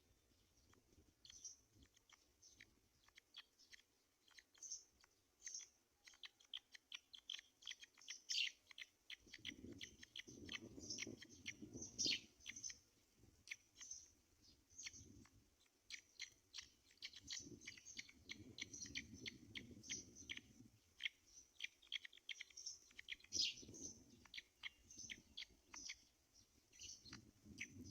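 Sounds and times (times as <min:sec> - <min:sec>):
high-pitched chirps and squeaks: 0:00.6 - 0:12.8, 0:13.4 - 0:26.1, 0:26.7 - 0:27.9.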